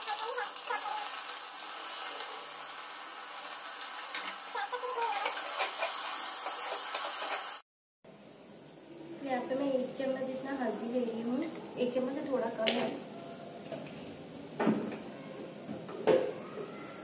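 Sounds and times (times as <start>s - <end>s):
onions sizzling in oil: 0.0s - 15.7s.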